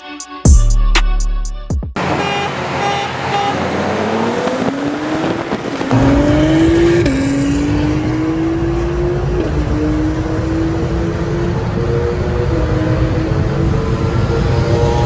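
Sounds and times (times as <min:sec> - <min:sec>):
racing car engines at full throttle: 0:02.0 - 0:15.0.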